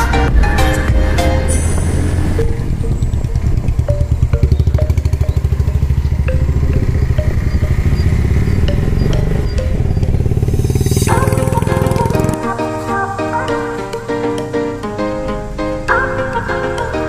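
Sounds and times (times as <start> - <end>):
motorcycle engine running: 0.3 - 16.0.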